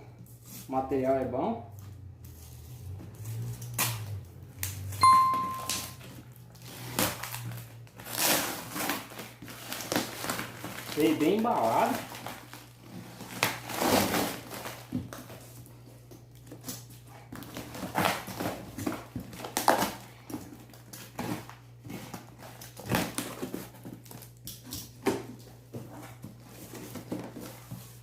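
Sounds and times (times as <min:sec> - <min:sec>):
packaging rustling and squeaking: 0:02.2 - 0:15.7, 0:16.3 - 0:28.0.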